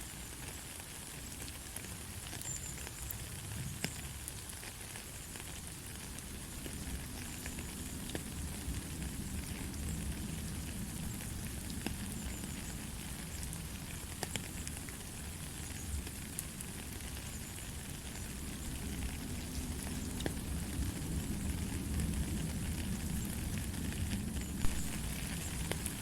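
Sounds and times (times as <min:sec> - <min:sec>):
light rain hiss: 0:00.0 - 0:26.0
raindrops ticking: 0:00.3 - 0:26.0.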